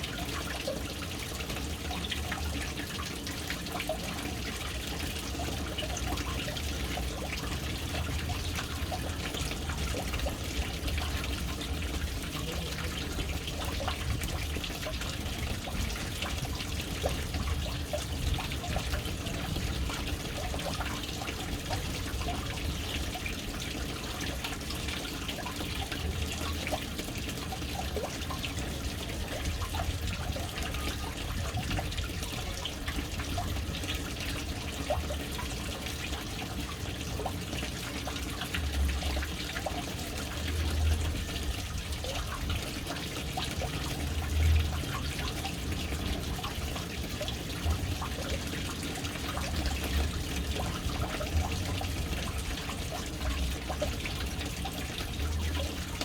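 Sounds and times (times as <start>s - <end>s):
water dripping: 0.0s - 56.0s
water splashing into tank: 0.0s - 56.0s.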